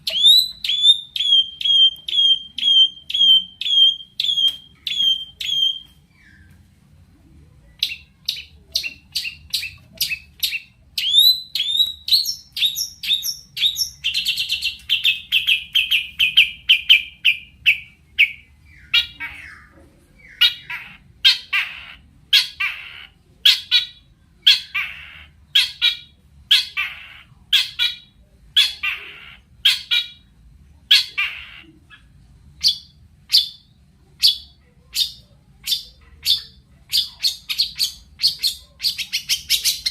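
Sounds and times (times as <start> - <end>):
bird singing: 0.0 - 6.6, 7.7 - 30.3, 30.9 - 39.9.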